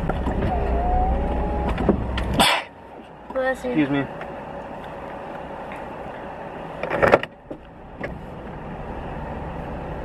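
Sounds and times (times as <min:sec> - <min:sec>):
car cabin road and engine noise: 0:00.0 - 0:10.0.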